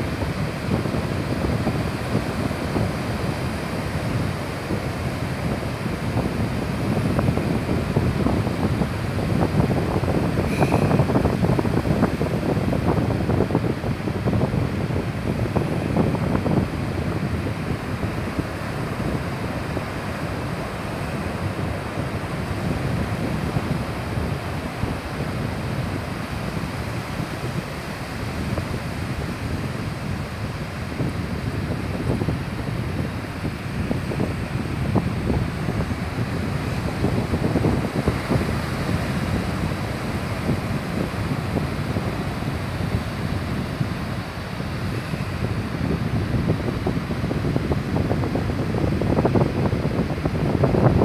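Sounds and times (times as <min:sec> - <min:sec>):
small waves breaking on beach: 0:00.0 - 0:50.9
sea surf washing in: 0:00.0 - 0:51.0
wind buffeting microphone: 0:00.0 - 0:51.0.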